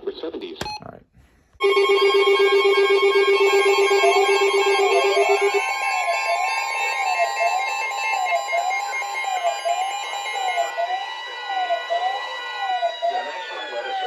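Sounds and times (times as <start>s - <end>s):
siren-like sweeping tone: 1.6s - 14.0s
steady high alert tone: 1.6s - 14.0s.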